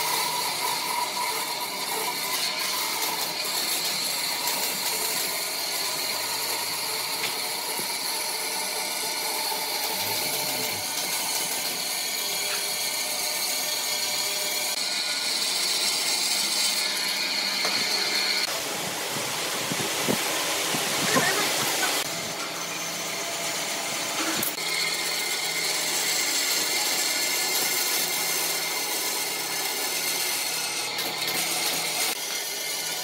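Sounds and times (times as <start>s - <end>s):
bandsaw cutting wood: 0.0s - 33.0s.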